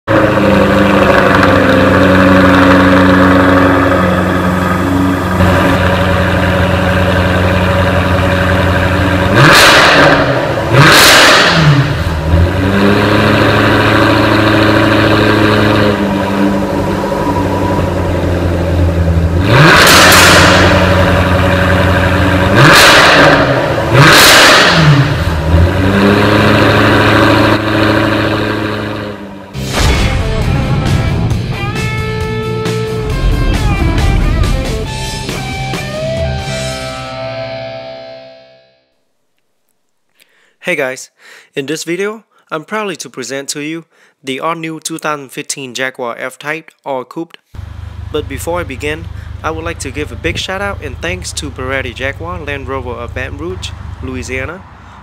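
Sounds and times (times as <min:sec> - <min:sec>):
car engine idling and revving: 0:00.1 - 0:37.0, 0:47.6 - 0:55.0.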